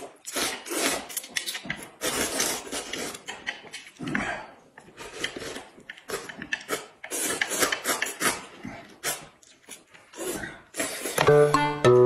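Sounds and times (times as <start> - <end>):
noodles slurped: 0.0 - 11.2.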